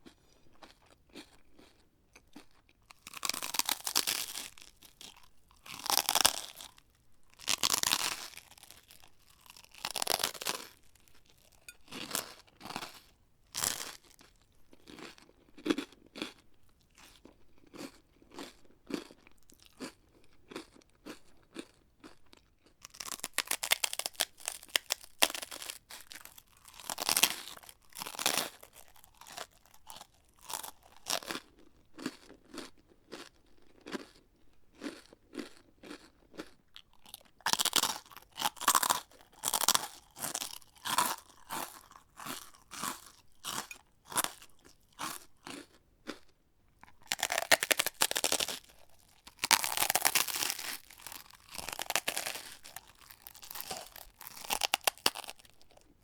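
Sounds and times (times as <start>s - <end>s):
crunching bites of crisps: 0.0s - 56.0s.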